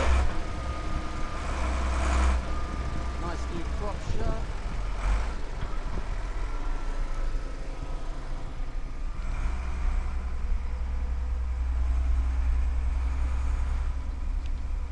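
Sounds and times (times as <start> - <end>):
road noise: 0.0 - 14.9
truck engine rumbling: 0.0 - 14.9.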